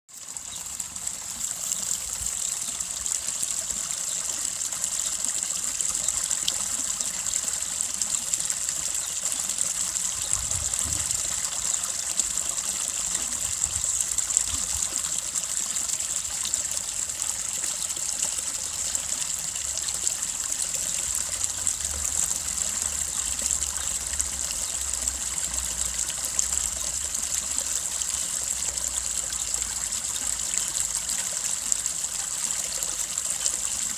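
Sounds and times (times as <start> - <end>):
brook babbling: 0.1 - 33.9.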